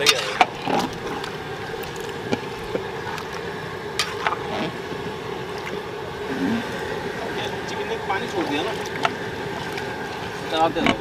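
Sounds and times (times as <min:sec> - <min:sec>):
steady rushing noise: 0:00.0 - 0:11.0
wet stirring in a pot: 0:00.0 - 0:11.0.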